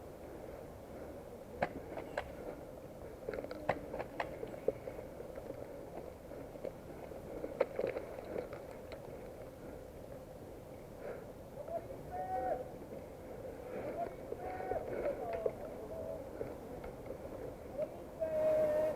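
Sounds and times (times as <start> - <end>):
steady background noise: 0.0 - 18.9.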